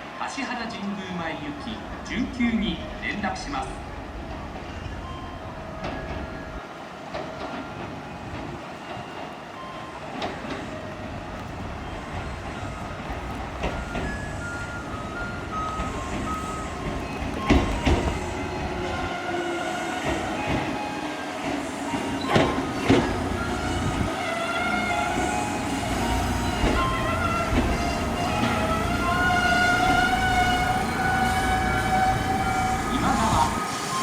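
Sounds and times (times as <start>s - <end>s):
electric train rumbling: 0.0s - 34.0s
wheels clacking over rail joints: 3.8s - 34.0s.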